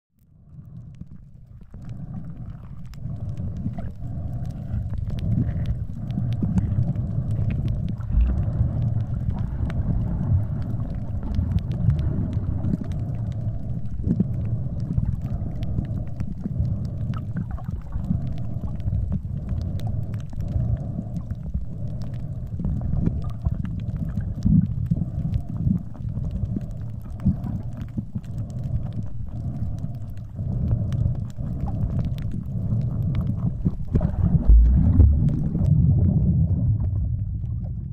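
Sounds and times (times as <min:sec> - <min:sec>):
underwater water rumble: 0:00.2 - 0:37.9
faint clicks: 0:00.6 - 0:36.0.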